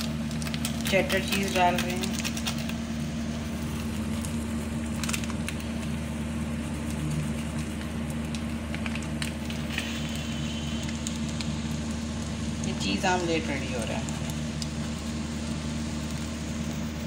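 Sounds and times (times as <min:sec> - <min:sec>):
egg sizzling in a frying pan: 0:00.0 - 0:17.0
low hum: 0:00.0 - 0:17.0.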